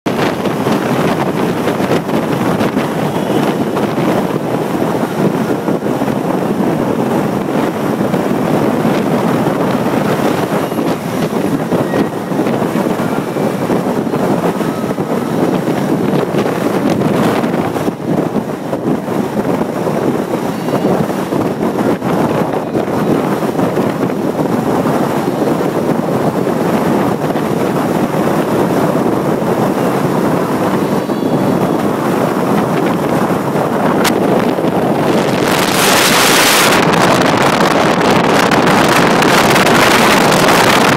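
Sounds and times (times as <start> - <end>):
wind buffeting microphone: 0.0 - 40.9
vehicle road and engine noise: 0.1 - 40.9.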